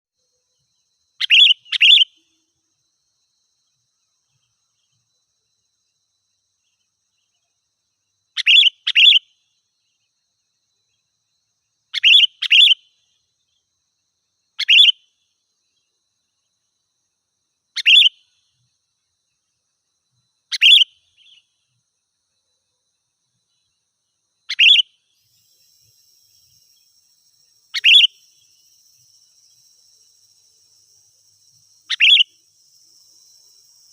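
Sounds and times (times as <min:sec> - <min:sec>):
faint insect trill: 0:00.1 - 0:33.9.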